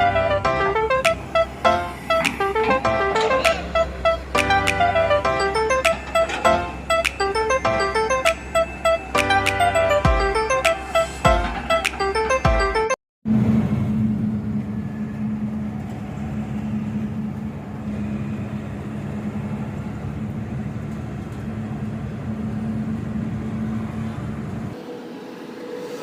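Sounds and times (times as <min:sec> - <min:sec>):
truck engine droning: 0:00.0 - 0:24.8.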